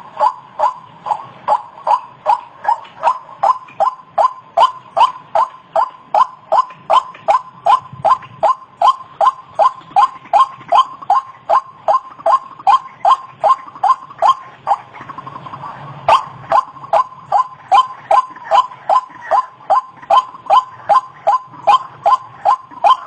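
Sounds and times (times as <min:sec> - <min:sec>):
waterhen calling: 0:00.0 - 0:23.0.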